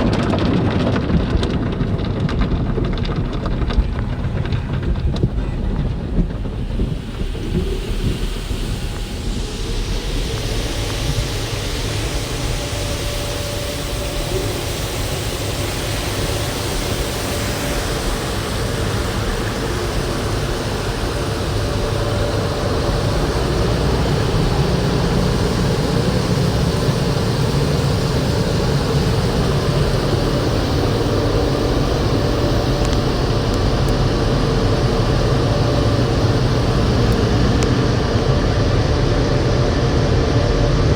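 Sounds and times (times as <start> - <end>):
car wash machinery rumble: 0.0 - 40.9
car wash spraying hiss: 6.3 - 40.0.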